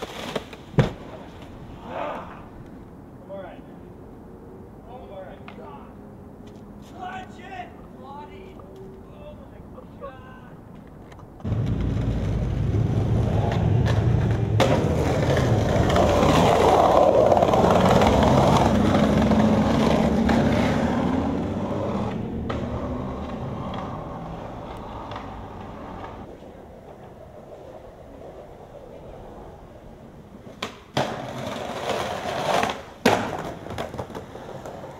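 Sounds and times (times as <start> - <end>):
skateboard wheels rolling on concrete: 0.0 - 34.9.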